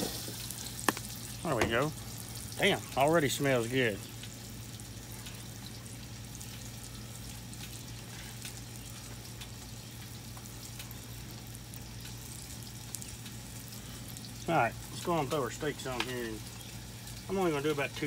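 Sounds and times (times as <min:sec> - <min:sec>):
low steady hum: 0:00.0 - 0:18.0
vegetables sizzling on a griddle: 0:00.0 - 0:18.0.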